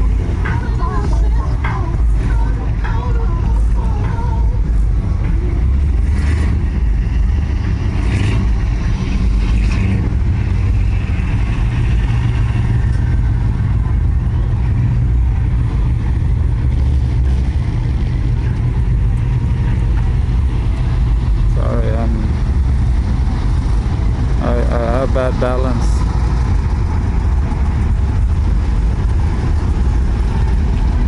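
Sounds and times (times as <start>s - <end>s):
cars driving past: 0.0s - 31.0s.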